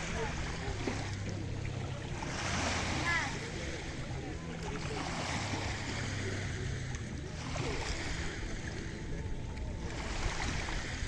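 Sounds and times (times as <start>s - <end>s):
small waves breaking on shore: 0.0s - 11.0s.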